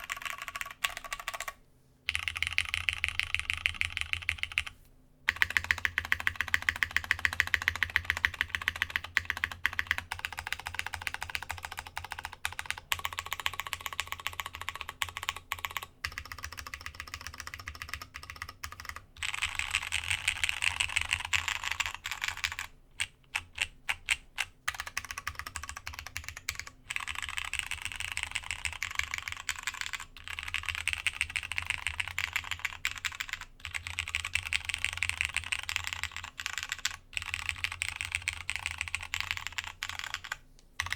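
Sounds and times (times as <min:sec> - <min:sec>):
typing on mechanical keyboard: 0:00.0 - 0:04.7, 0:05.3 - 0:40.9.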